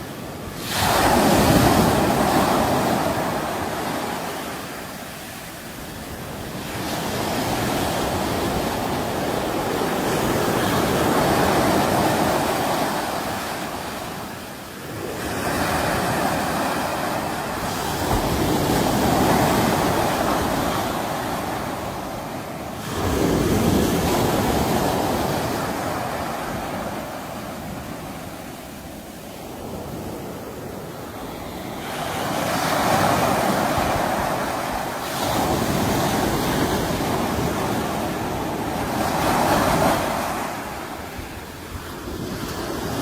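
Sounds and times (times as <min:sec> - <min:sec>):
sea waves breaking on shore: 0:00.0 - 0:43.0.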